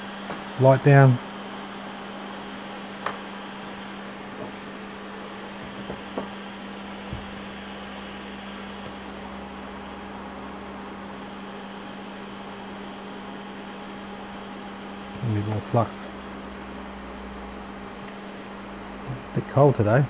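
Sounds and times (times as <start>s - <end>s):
equipment fan whirring with hum: 0.0s - 20.0s.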